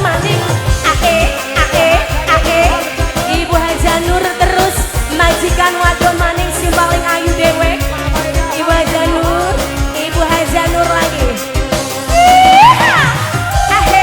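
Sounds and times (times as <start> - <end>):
fast drum beat: 0.0 - 14.0
ornamented lead melody: 0.0 - 14.0.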